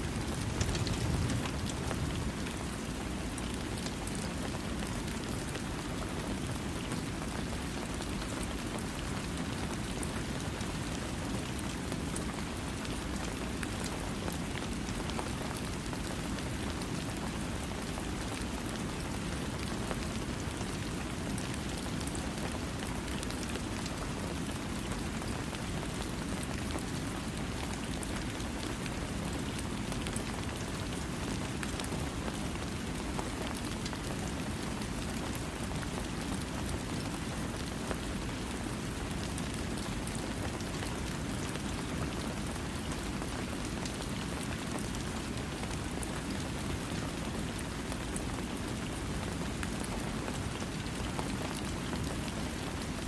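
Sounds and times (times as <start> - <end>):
rain drops ticking: 0.0 - 53.0
steady rain hiss: 0.0 - 53.0.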